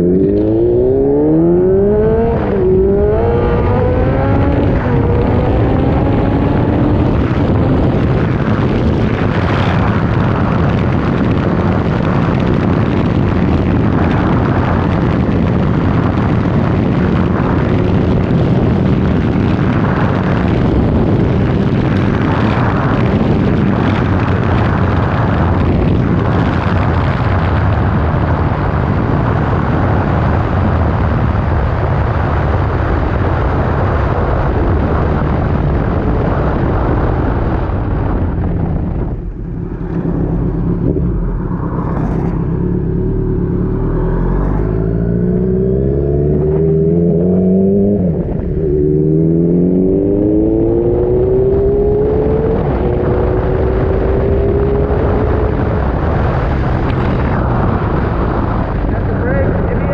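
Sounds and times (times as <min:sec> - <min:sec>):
motorcycle engine accelerating: 0:00.0 - 0:59.9
wind and tyre noise on wet road: 0:00.0 - 0:59.9.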